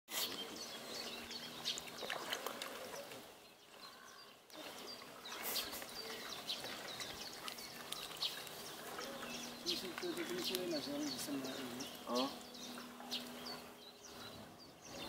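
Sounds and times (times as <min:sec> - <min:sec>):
small birds chirping: 0:00.1 - 0:15.0
outdoor background hiss: 0:00.2 - 0:15.0.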